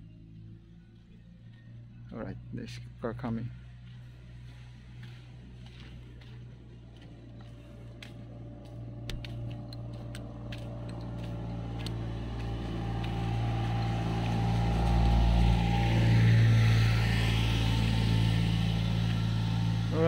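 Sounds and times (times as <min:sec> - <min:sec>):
car engine hum approaching: 0:00.0 - 0:20.0.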